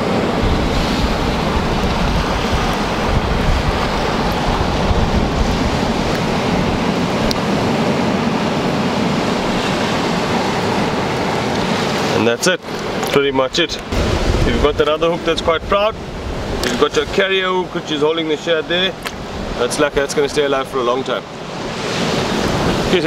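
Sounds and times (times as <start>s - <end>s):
sea surf: 0.0s - 23.0s
wind buffeting microphone: 0.0s - 23.0s.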